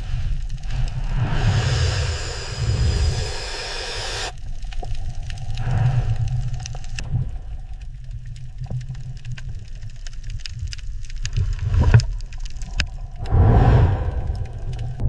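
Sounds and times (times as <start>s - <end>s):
underwater clicks and crackles: 0.0s - 15.0s
underwater low rumble: 0.0s - 15.0s.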